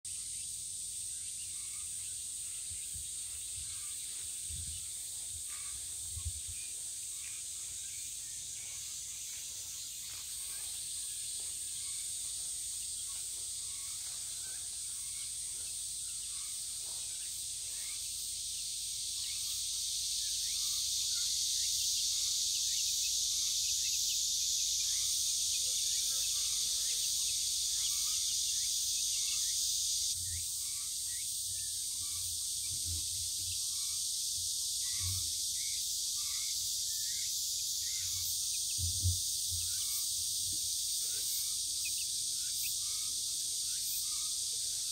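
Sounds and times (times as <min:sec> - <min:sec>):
cicadas buzzing: 0:00.1 - 0:44.9
faint chirps: 0:00.1 - 0:44.9.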